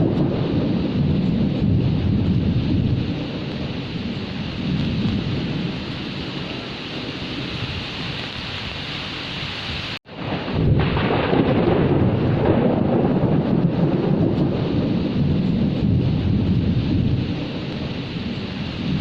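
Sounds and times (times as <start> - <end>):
low rumble of thunder: 0.0 - 8.4, 10.1 - 19.0
heavy rain: 0.0 - 19.0.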